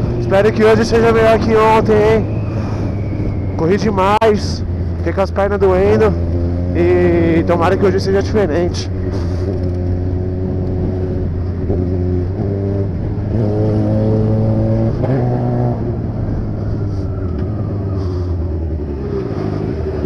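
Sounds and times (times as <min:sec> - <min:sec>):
motorcycle engine accelerating: 0:00.0 - 0:20.0
wind noise: 0:00.0 - 0:20.0.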